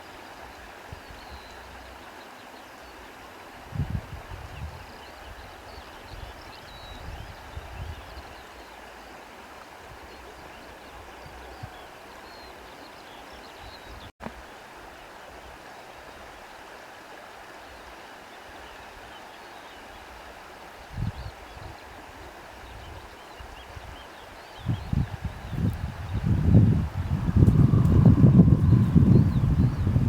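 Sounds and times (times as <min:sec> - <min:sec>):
rushing hiss of wind or water: 0:00.0 - 0:30.0.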